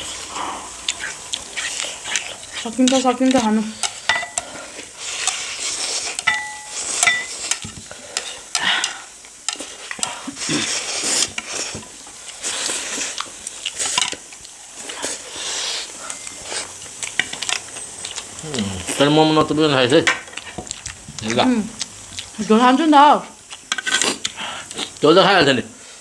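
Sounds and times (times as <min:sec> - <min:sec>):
chewing: 0:00.0 - 0:25.0
noodles being slurped: 0:00.0 - 0:25.0
utensils clicking against dishes: 0:00.9 - 0:22.6, 0:23.4 - 0:25.0.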